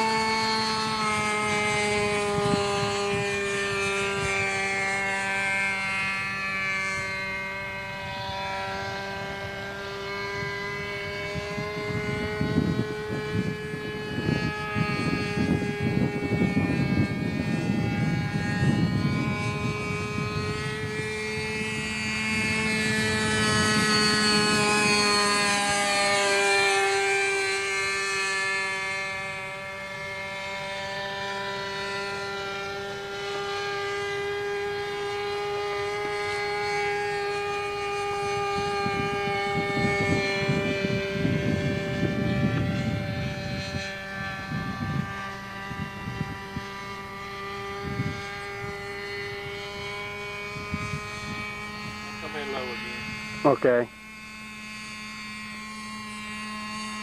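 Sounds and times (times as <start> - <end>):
model plane engine whining: 0.0 - 57.0
wind rumbling on microphone: 0.0 - 57.0.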